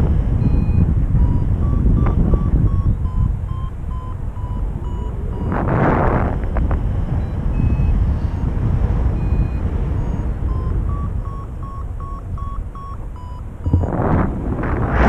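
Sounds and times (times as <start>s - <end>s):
variometer beeping: 0.0s - 15.0s
wind on microphone: 0.0s - 15.0s.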